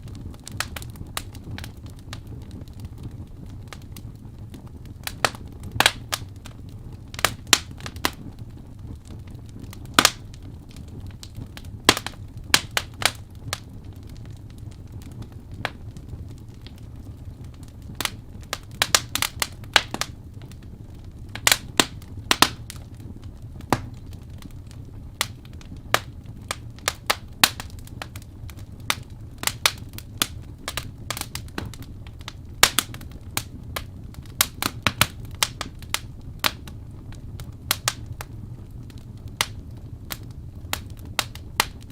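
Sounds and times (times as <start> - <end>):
fire rumble: 0.0 - 41.9
logs crackling and popping: 0.0 - 41.9.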